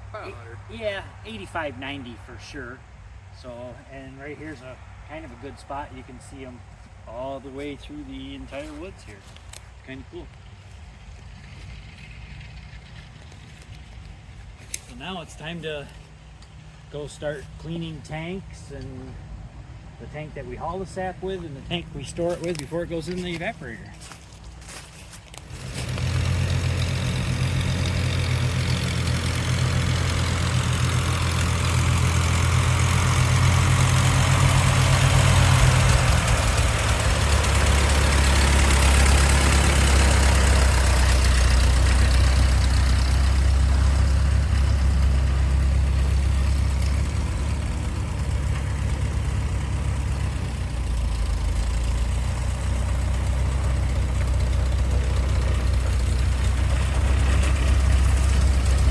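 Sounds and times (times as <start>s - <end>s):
tractor engine running: 4.3s - 58.9s.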